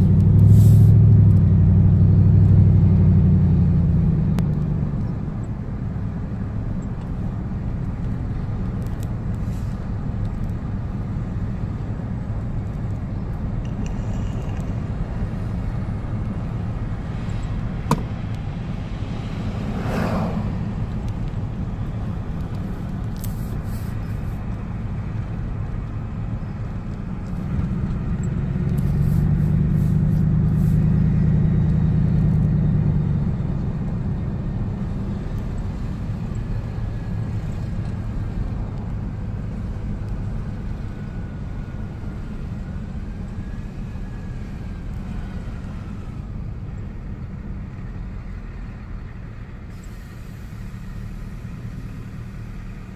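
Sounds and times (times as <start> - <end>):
car engine and road drone: 0.0 - 52.9.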